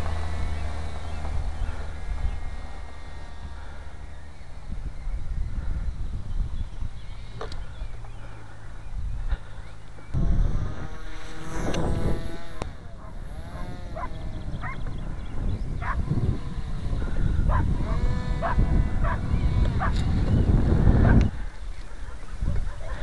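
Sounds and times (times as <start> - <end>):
model aircraft motor whining: 0.0 - 22.0
wind rumble on microphone: 0.0 - 23.0.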